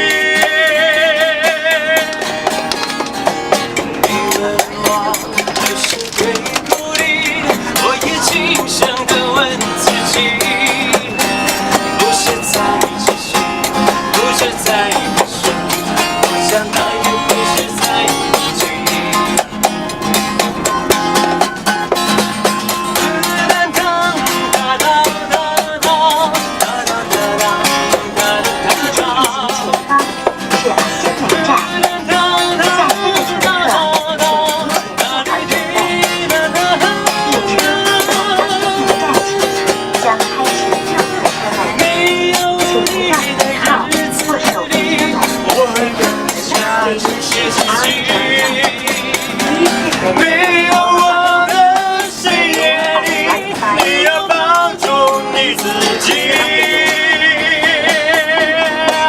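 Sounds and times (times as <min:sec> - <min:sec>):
held melody notes: 0:00.0 - 0:59.0
plucked string instrument: 0:00.0 - 0:59.0.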